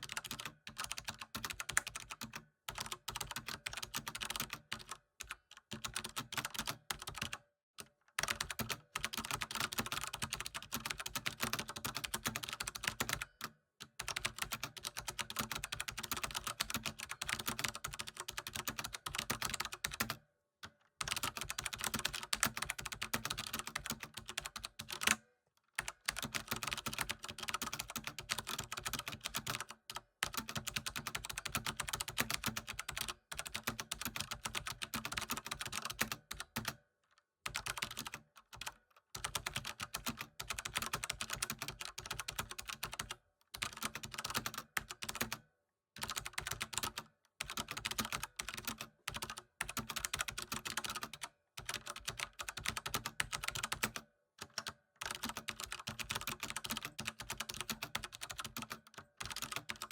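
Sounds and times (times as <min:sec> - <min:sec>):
fast typing on keyboard: 0:00.0 - 0:07.4, 0:08.2 - 0:20.2, 0:21.0 - 0:25.2, 0:25.8 - 0:36.8, 0:37.5 - 0:45.4, 0:46.0 - 0:59.9.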